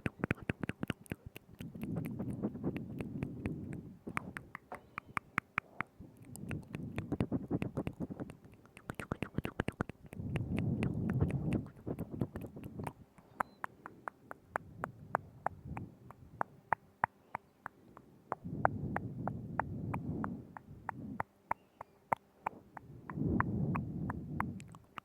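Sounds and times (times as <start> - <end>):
wet tongue and lip clicks: 0.0 - 25.0.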